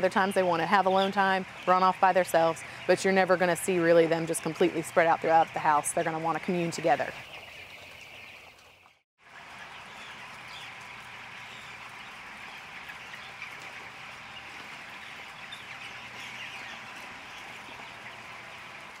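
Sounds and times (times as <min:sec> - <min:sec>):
chickens peeping and clucking: 0:00.0 - 0:19.0.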